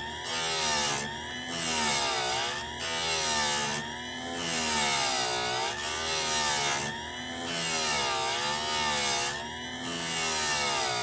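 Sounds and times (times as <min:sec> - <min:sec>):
grinder motor running: 0:00.0 - 0:11.0.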